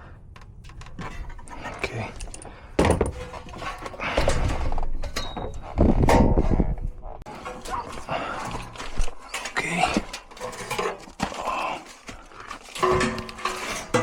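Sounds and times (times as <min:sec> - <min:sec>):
metal rattling and scraping: 0:00.3 - 0:14.0
tools and metal parts clattering: 0:00.3 - 0:14.0.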